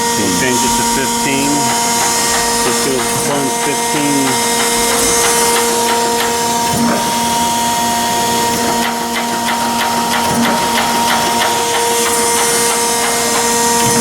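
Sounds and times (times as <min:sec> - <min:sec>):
grinder machine hum: 0:00.0 - 0:14.0
rapid mechanical clicks: 0:00.1 - 0:14.0.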